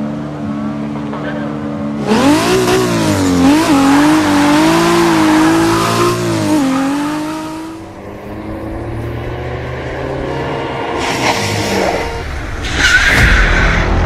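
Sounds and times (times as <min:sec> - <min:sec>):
sports car engine revving: 0:00.0 - 0:12.4.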